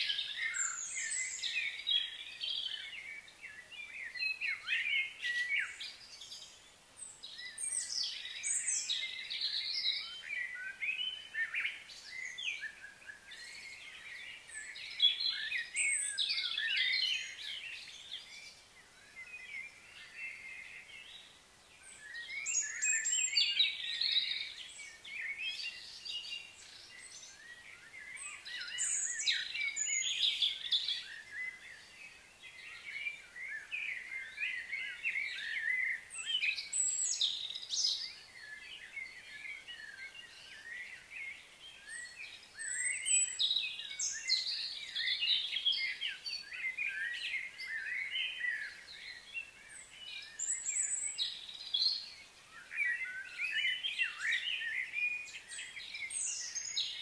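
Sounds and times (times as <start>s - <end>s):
birds chirping: 0.0s - 57.0s
faint outdoor background: 0.0s - 57.0s.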